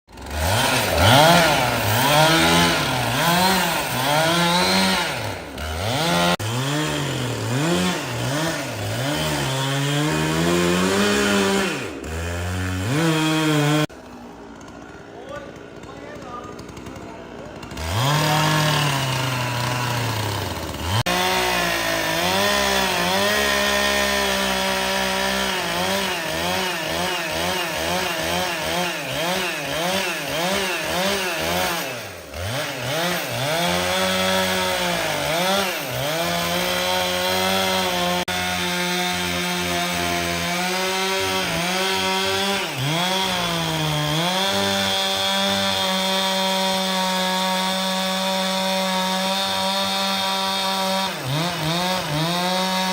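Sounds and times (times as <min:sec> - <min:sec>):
chainsaw cutting wood: 0:00.1 - 0:52.9.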